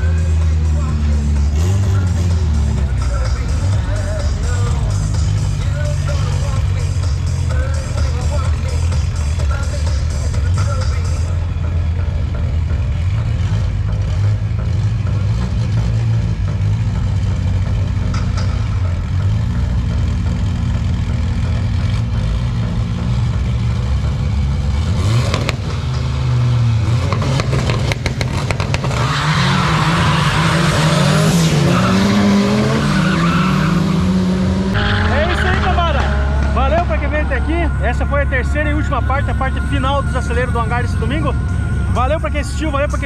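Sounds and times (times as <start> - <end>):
drag racing car engines revving: 0.0 - 43.0.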